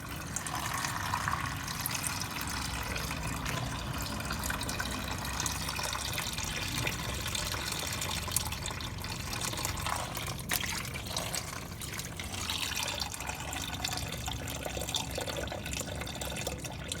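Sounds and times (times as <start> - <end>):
oil trickling from engine: 0.0 - 17.0.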